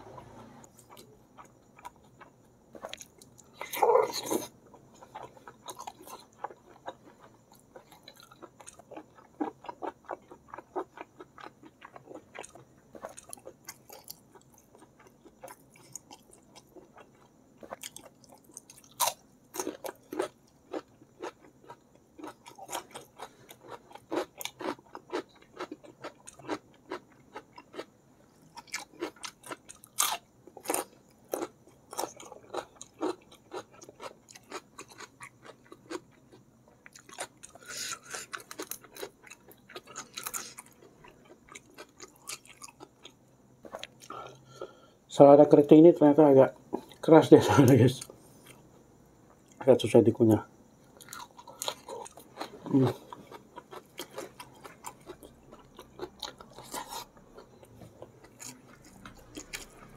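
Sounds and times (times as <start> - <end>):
crunchy bites: 0.7 - 27.9, 28.5 - 44.7, 50.9 - 59.9.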